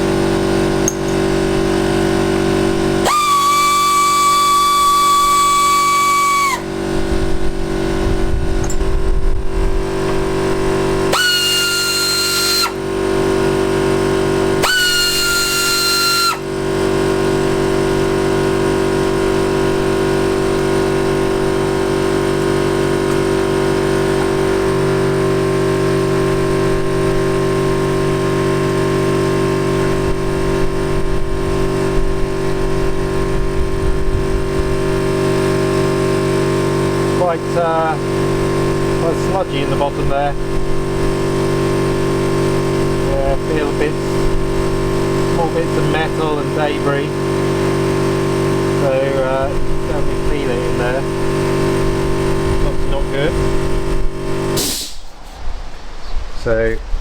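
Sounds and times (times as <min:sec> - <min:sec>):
power driver whining: 0:00.0 - 0:57.0.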